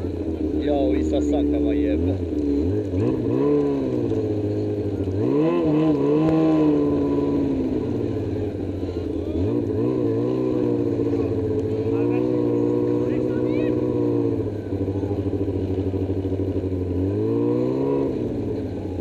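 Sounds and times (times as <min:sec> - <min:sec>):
snowmobile engine revving: 0:00.0 - 0:19.0.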